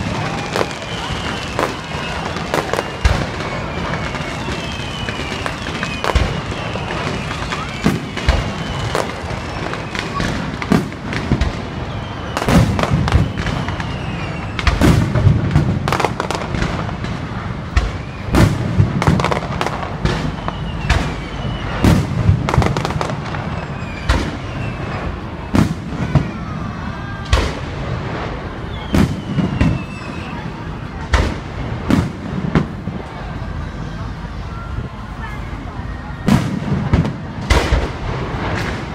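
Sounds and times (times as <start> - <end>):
fireworks bangs: 0.0 - 38.9
fireworks rush and crackle: 0.0 - 38.9.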